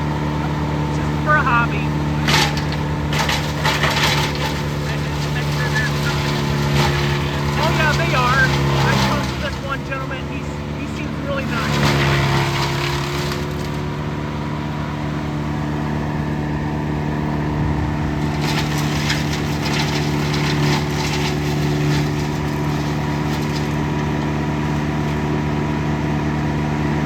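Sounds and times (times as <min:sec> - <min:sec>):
rapid crackling clatter: 0:00.0 - 0:14.4, 0:18.0 - 0:25.4
wood chipper engine running: 0:00.0 - 0:27.0.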